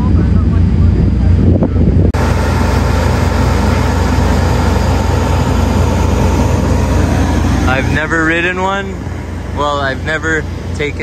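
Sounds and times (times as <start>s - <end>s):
constant whine: 0.0s - 11.0s
engine drone: 0.0s - 11.0s.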